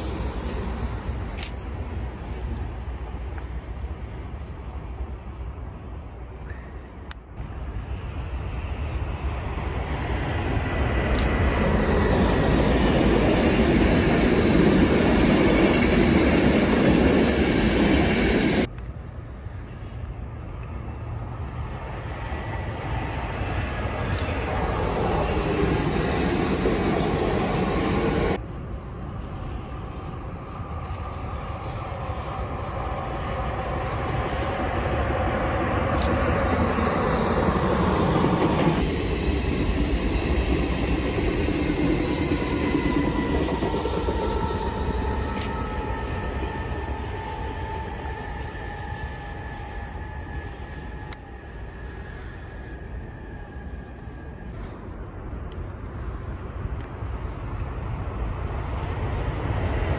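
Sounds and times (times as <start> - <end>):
electric train passing: 0.0 - 59.9.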